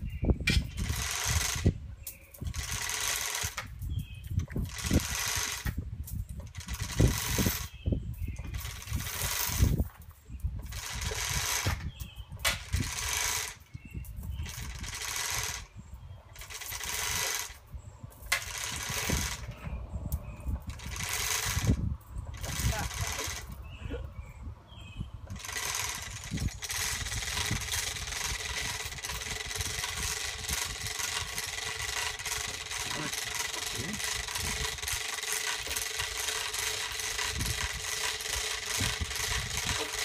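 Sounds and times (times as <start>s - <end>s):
chain hoist rattling: 0.5s - 23.6s, 25.2s - 40.0s.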